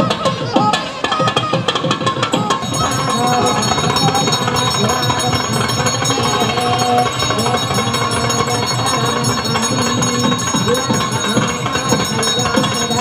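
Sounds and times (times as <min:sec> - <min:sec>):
bell ringing continuously: 0:01.3 - 0:13.0
wavering melodic sound: 0:02.5 - 0:13.0.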